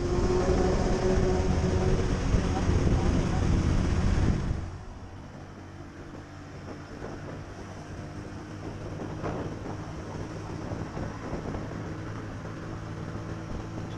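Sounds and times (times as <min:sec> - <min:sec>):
wind rush: 0:00.0 - 0:13.9.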